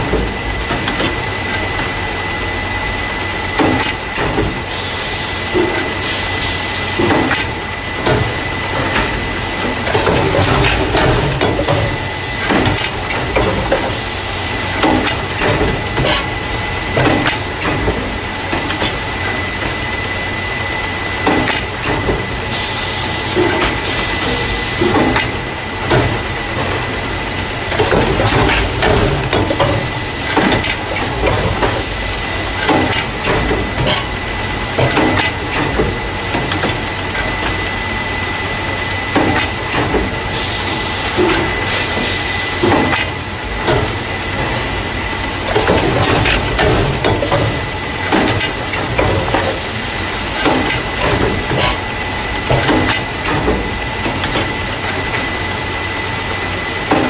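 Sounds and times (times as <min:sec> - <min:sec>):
machine clattering and knocking: 0:00.0 - 0:02.4, 0:03.5 - 0:04.8, 0:05.5 - 0:57.0.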